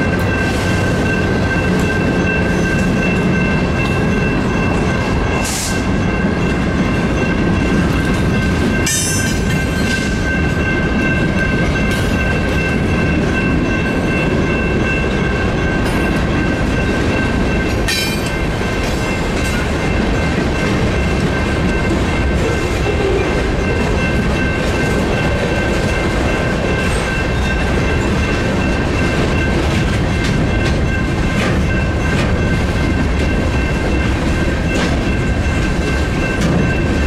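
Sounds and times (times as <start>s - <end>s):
crossing bell ringing: 0.0s - 37.0s
freight train wheels clacking: 0.0s - 37.0s.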